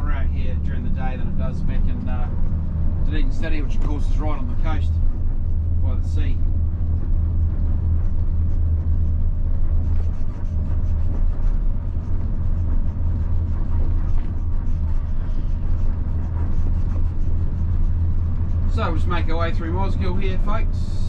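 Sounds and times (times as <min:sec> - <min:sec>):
diesel bus engine droning: 0:00.0 - 0:21.0
road noise: 0:00.0 - 0:21.0.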